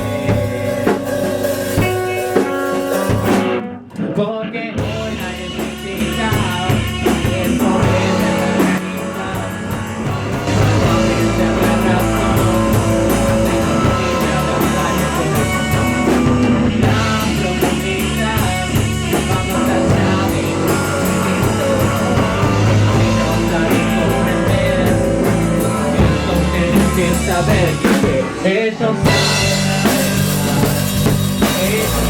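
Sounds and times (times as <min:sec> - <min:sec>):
drum kit: 0:00.0 - 0:32.0
electric guitar: 0:00.0 - 0:32.0
rock band playing: 0:00.0 - 0:32.0.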